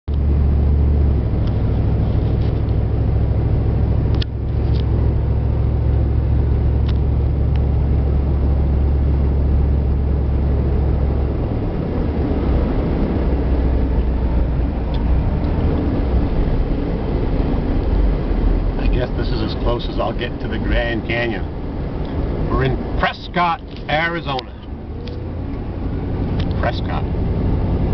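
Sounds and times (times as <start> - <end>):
diesel engine droning: 0.0 - 27.9
road noise: 0.0 - 27.9.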